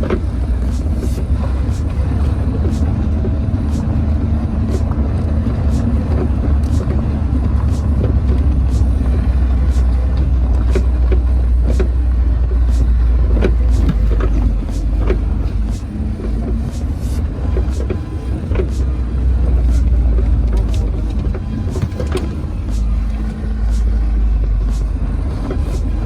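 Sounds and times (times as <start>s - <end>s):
engine and road noise rumble: 0.0s - 26.0s.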